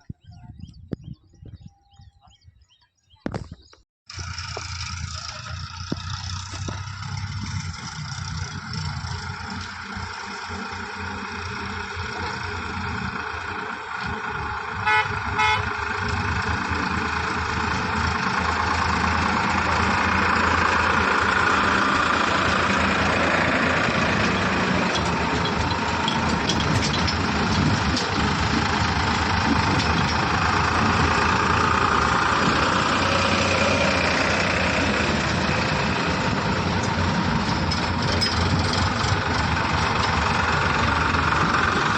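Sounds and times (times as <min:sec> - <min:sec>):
diesel engine running: 0:04.1 - 0:41.9.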